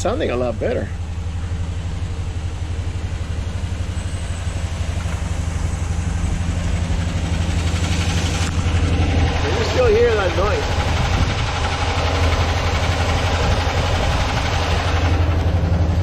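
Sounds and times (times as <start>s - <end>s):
engine knocking: 0.0s - 16.0s
engine running: 0.0s - 16.0s.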